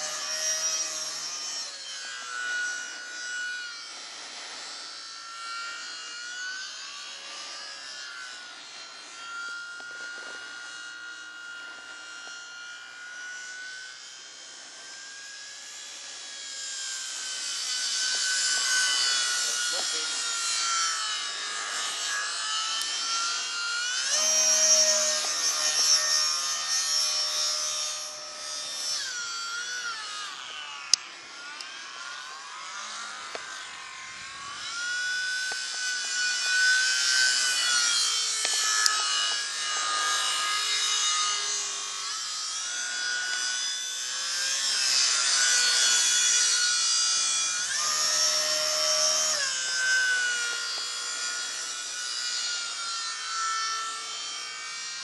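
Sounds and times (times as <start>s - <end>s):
model airplane motor whining: 0.0s - 55.0s.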